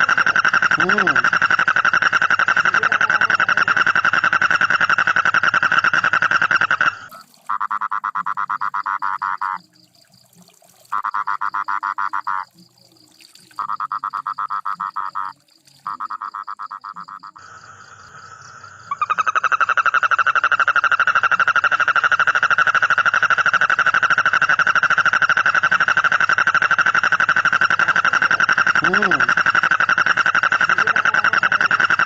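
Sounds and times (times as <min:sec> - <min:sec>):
frog trilling: 0:00.0 - 0:09.8, 0:10.9 - 0:32.0.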